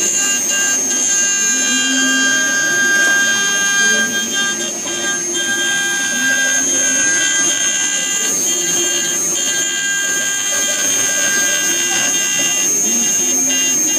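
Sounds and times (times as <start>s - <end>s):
motor whines changing pitch: 0.0s - 13.9s
router spindle high whine: 0.0s - 13.9s.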